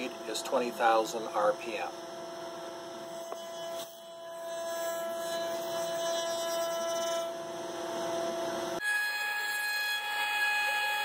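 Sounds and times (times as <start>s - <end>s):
router spindle humming: 0.0s - 11.0s.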